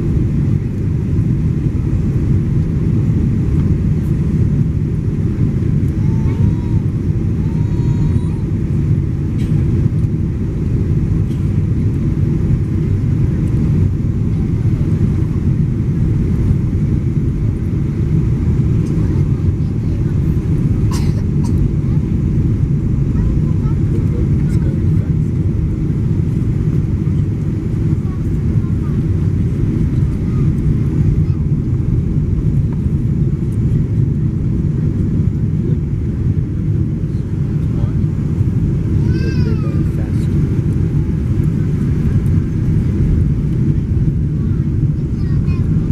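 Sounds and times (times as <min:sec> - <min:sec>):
airplane low rumble: 0:00.0 - 0:45.9.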